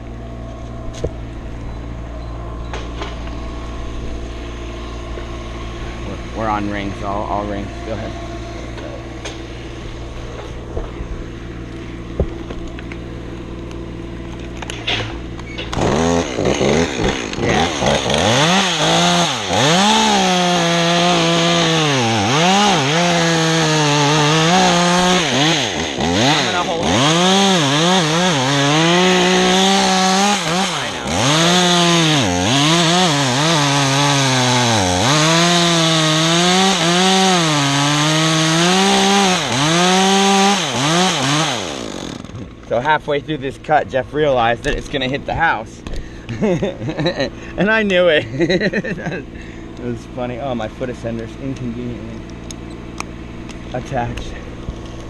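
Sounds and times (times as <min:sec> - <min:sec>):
chainsaw cutting wood: 0:02.7 - 0:42.9, 0:44.6 - 0:49.8.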